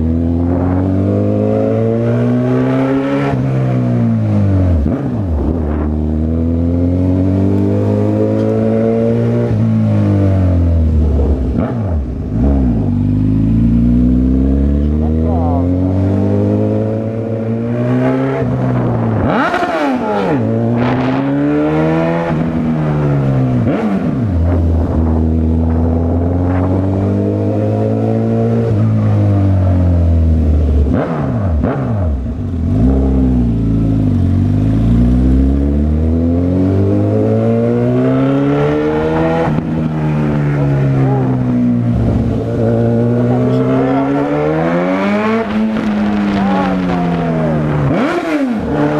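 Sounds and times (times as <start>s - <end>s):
motorcycle engine revving: 0.0s - 48.9s
vehicles passing: 0.0s - 48.9s.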